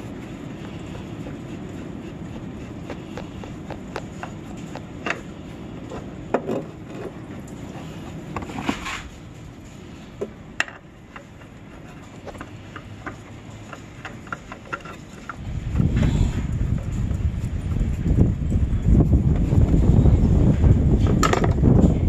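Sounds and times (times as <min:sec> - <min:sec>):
light clicks and scrapes: 0:00.0 - 0:18.3.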